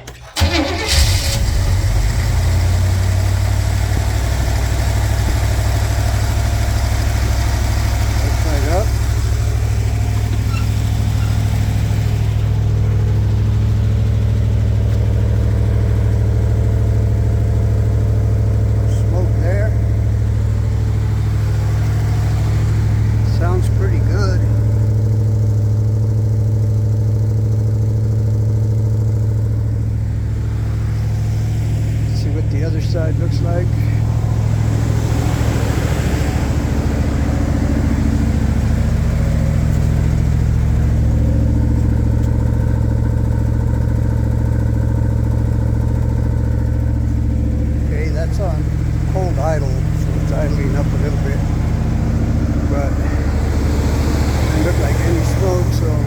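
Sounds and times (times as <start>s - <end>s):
van engine idling: 0.0s - 56.0s.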